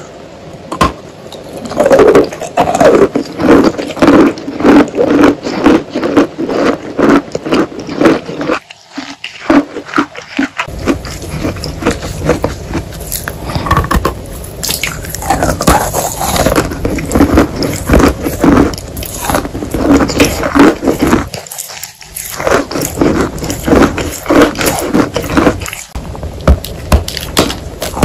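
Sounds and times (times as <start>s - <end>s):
chewing chalk crunches: 1.6s - 26.0s.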